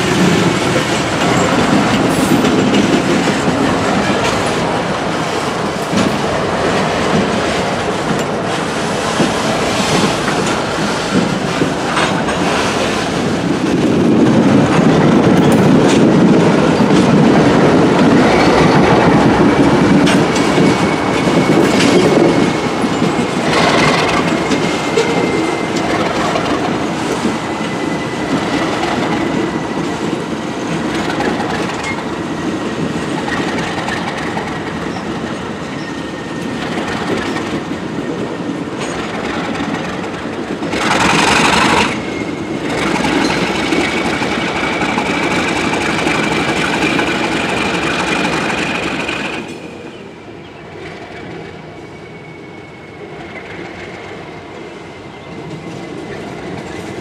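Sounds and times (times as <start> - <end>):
train wheels clacking over rails: 0.0 - 50.0, 55.4 - 57.0.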